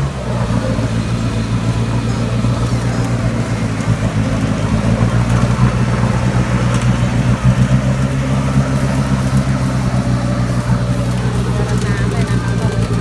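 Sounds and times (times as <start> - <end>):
engine low drone: 0.0 - 13.0
vehicle rattle: 0.0 - 13.0.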